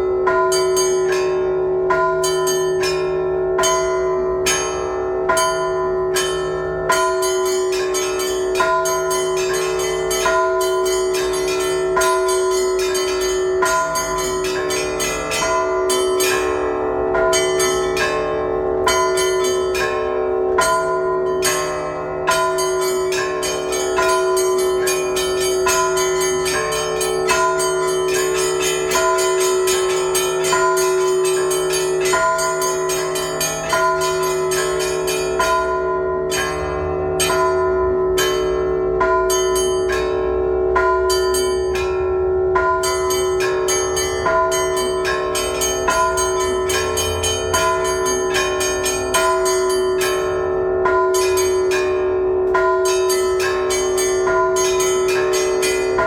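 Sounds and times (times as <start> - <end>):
large church bells ringing: 0.0 - 56.0
small church bells striking: 0.0 - 56.0.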